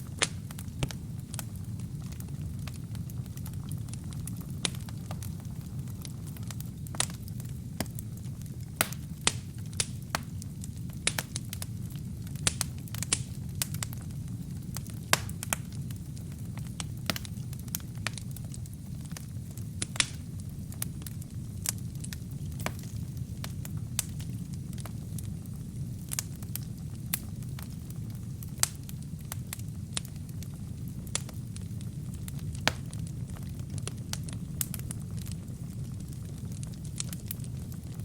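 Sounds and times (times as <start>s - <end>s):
fire roaring: 0.0s - 38.0s
wood crackling and popping: 0.0s - 38.0s.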